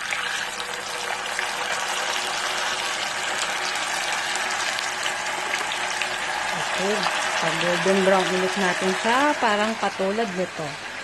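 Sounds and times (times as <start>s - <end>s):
tofu sizzling in hot oil: 0.0s - 11.0s.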